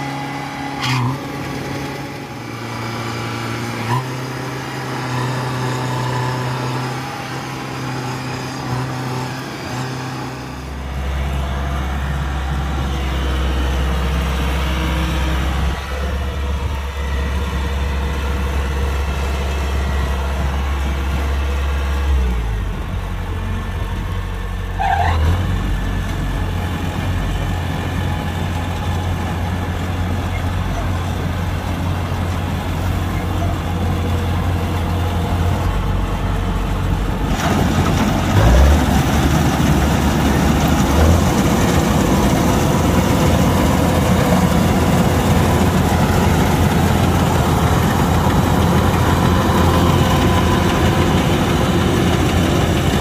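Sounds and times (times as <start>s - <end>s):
combine harvester engine running: 0.0s - 53.0s.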